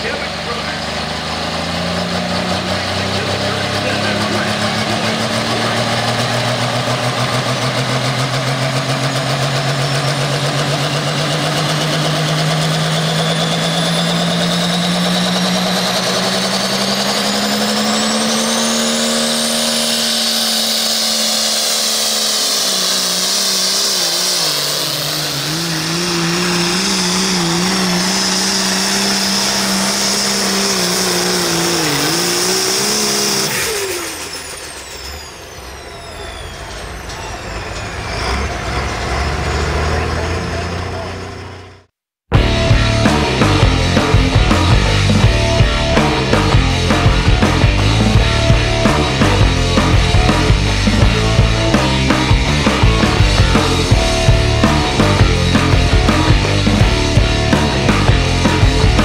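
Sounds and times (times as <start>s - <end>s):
tractor diesel engine at full throttle: 0.0s - 59.0s
turbo whine: 0.0s - 59.0s.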